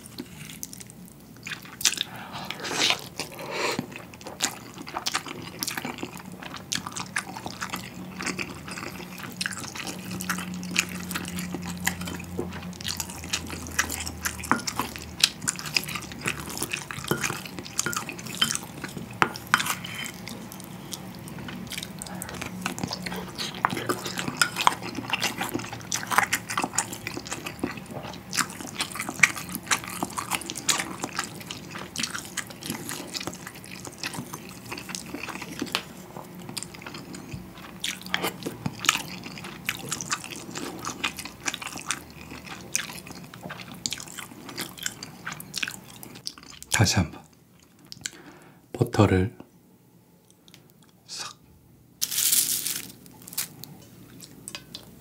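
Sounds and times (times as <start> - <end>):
wet chewing: 0.0 - 46.8.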